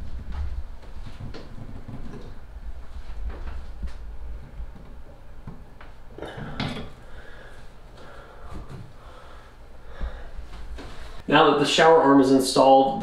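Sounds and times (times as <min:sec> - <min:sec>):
low handling rumble: 0:00.0 - 0:11.6.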